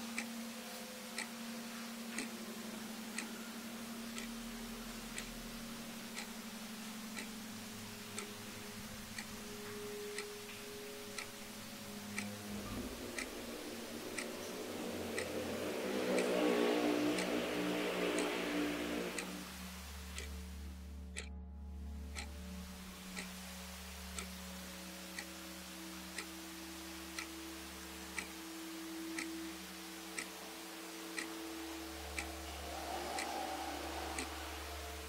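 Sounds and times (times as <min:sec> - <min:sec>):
low hum: 0:00.0 - 0:35.0
clock ticking: 0:01.1 - 0:01.4, 0:02.0 - 0:02.4, 0:03.0 - 0:21.4, 0:22.0 - 0:35.0.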